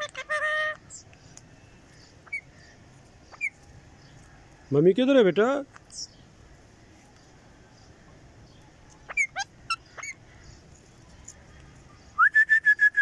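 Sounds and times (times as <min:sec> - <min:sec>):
parakeets chirping: 0:00.0 - 0:04.2, 0:05.1 - 0:12.2.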